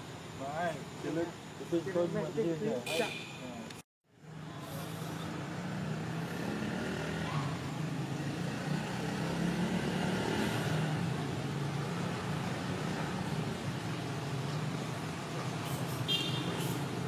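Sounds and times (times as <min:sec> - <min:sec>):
broad background noise: 0:00.0 - 0:17.0.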